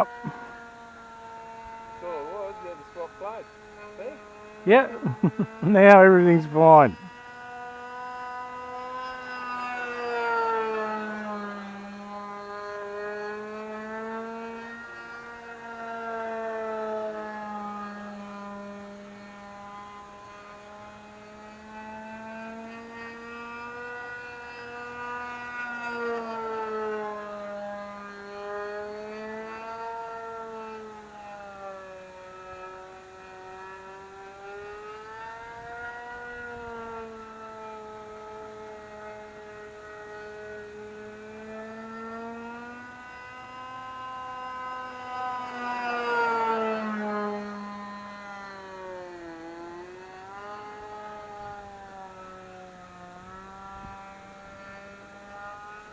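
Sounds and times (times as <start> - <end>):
model plane engine running: 0.0 - 55.9.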